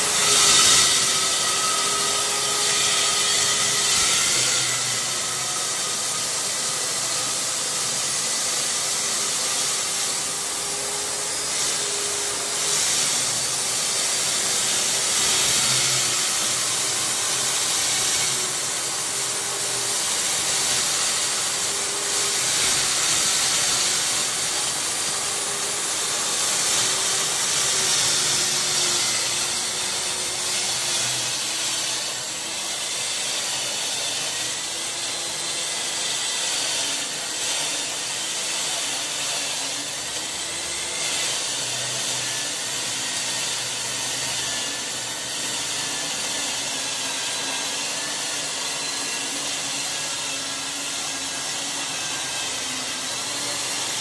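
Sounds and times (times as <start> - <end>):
core drill motor whine: 0.0 - 54.0
drill grinding hiss: 0.0 - 54.0.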